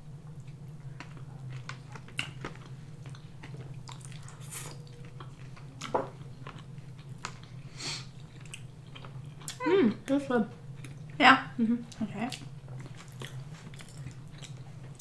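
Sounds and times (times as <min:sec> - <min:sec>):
close chewing: 0:00.4 - 0:09.6, 0:11.9 - 0:15.0.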